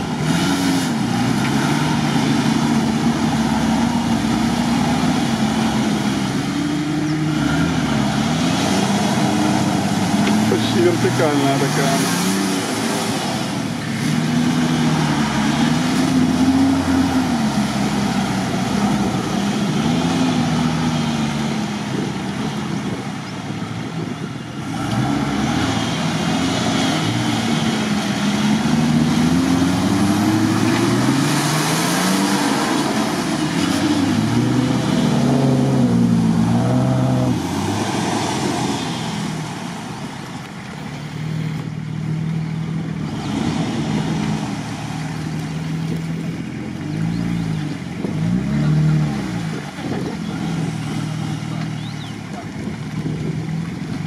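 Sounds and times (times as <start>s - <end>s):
off-road engines revving: 0.0s - 54.0s.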